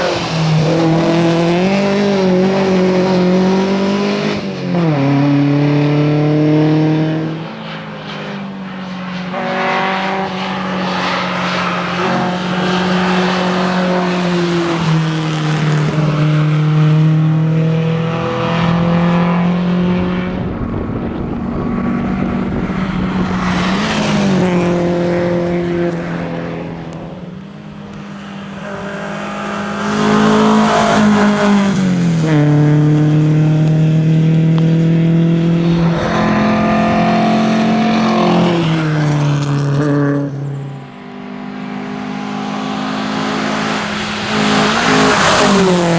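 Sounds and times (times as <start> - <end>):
rally car engine accelerating: 0.0 - 45.9.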